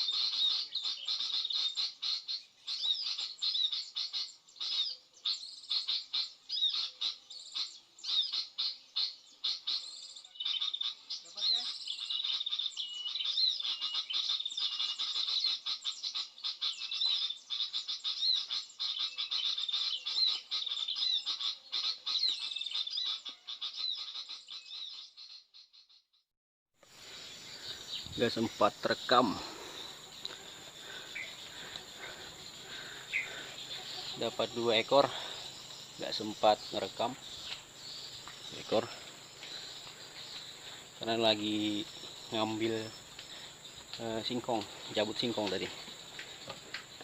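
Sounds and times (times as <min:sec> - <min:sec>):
small birds twittering: 0:00.0 - 0:26.2, 0:26.8 - 0:47.0.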